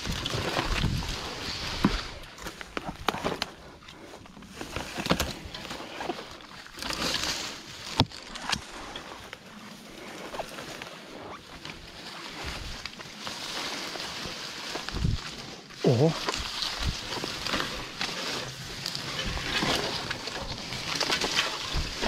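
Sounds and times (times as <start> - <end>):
bicycle rustling through brush: 0.0 - 22.0.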